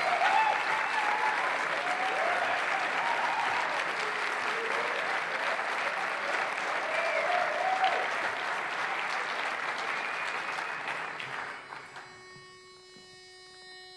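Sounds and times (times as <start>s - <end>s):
people cheering: 0.0s - 12.0s
audience applauding: 0.0s - 12.3s.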